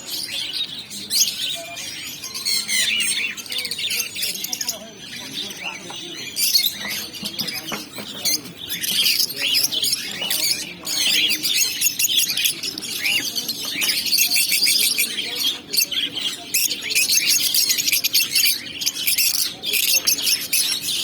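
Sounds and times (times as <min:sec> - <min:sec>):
parrots chattering and squawking: 0:00.0 - 0:21.0.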